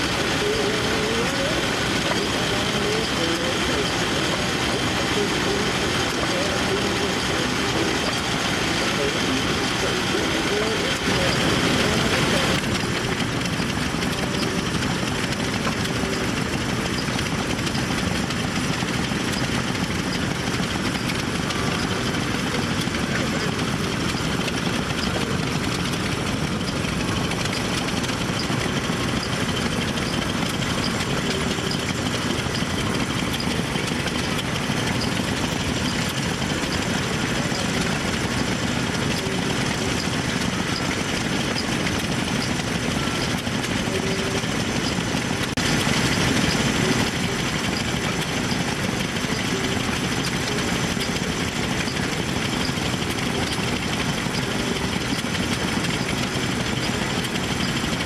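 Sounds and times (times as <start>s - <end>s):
old engines running: 0.0s - 58.0s.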